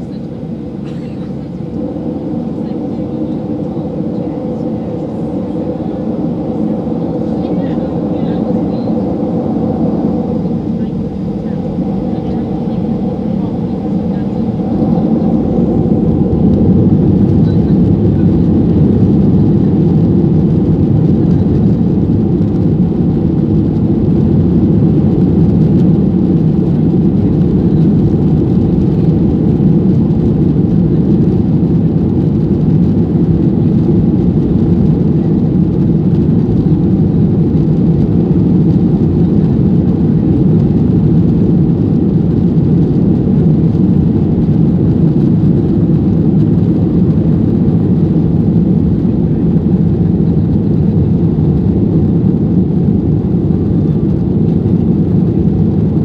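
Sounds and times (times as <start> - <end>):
jet engines at high power: 0.0 - 56.0
wheels rumbling on runway: 0.0 - 56.0.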